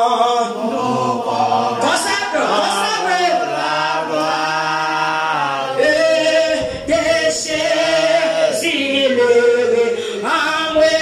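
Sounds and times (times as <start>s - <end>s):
voices singing a hymn: 0.0s - 11.0s.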